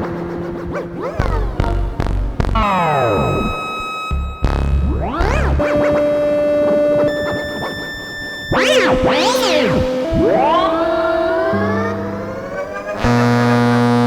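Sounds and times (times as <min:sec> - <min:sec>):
synthesizer tones: 0:01.0 - 0:13.4.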